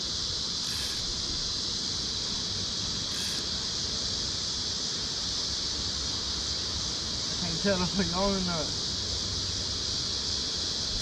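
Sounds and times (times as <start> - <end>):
high insect call bursts: 0.0 - 11.0
insects buzzing chorus: 0.0 - 11.0.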